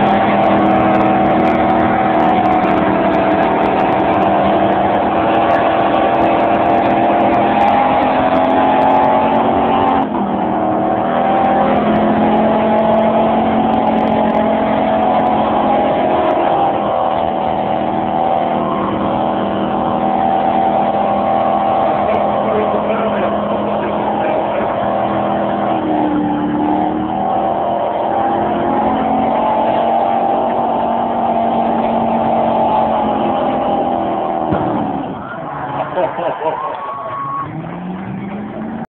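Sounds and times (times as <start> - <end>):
car engine at high revs: 0.0 - 38.9
tyres spinning on asphalt: 0.0 - 38.9.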